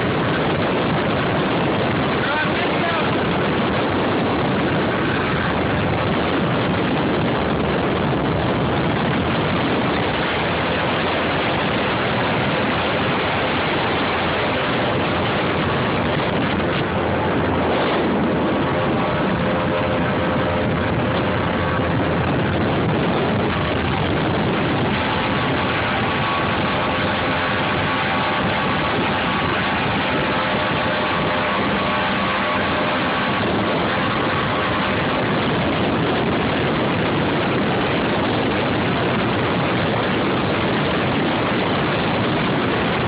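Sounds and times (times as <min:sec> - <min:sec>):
powerboat engines droning: 0:00.0 - 0:43.0
rush of wind and water: 0:00.0 - 0:43.0.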